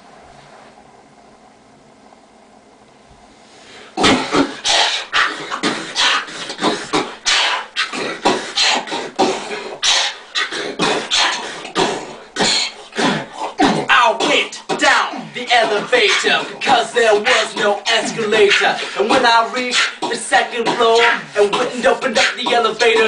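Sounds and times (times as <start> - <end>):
people beatboxing: 4.0 - 23.0.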